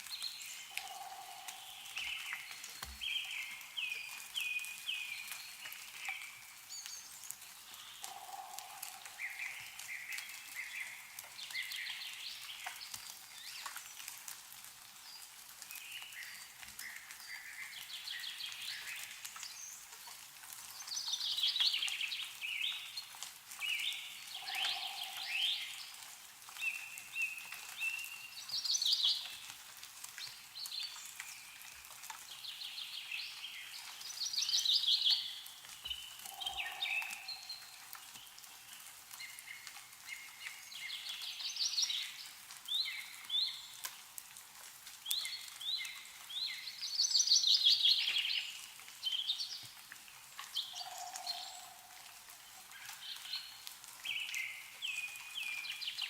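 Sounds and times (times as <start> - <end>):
meltwater dripping: 0.0 - 56.0.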